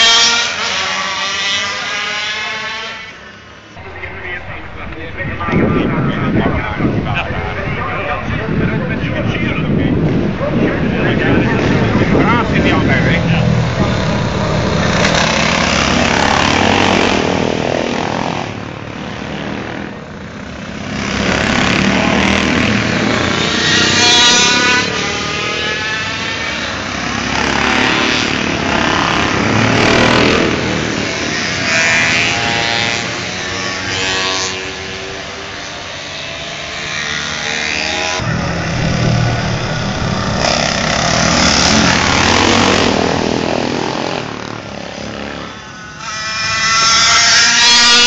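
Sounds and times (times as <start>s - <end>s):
racing motorcycles passing: 0.0s - 48.0s.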